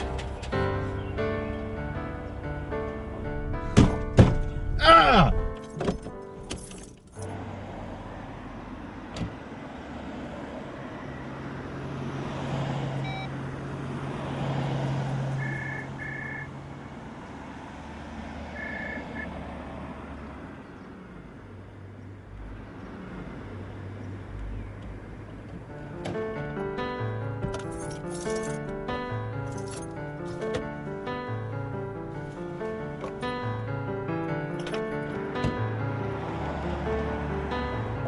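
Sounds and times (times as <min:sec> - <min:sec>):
car traffic passing: 0:00.0 - 0:05.6, 0:06.2 - 0:38.0.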